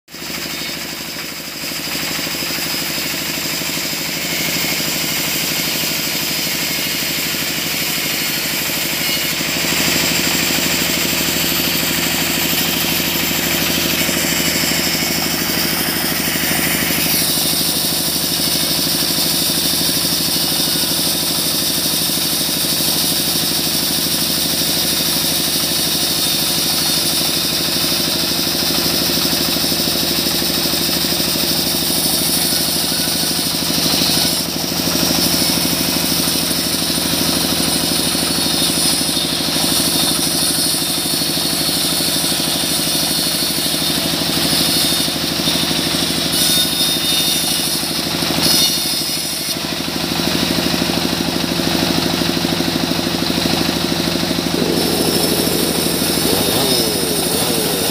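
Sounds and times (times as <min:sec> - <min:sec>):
saw cutting log: 0:00.1 - 0:51.0, 0:51.7 - 0:57.9.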